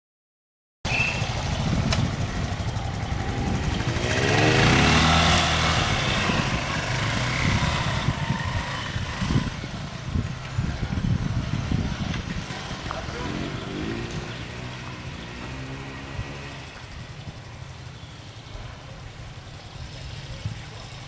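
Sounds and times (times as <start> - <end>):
motorcycle engine revving: 0.9 - 18.4.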